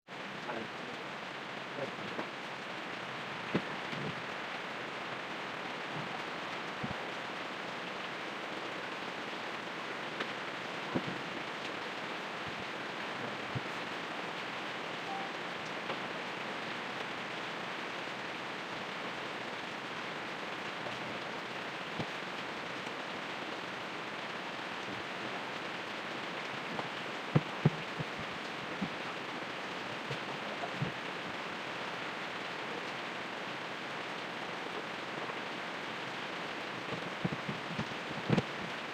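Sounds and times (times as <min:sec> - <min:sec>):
rain-like hiss: 0:00.1 - 0:38.9.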